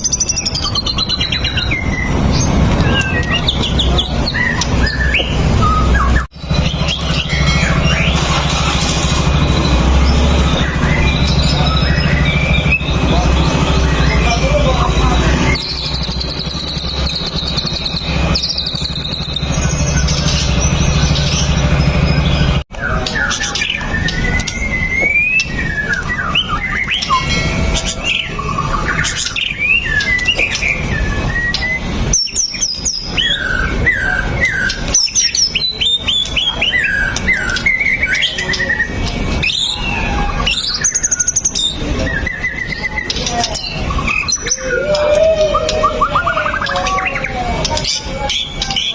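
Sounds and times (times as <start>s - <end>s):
songbird singing whistles and trills: 0.0s - 8.7s, 9.9s - 48.9s
loud low hum: 0.0s - 48.9s.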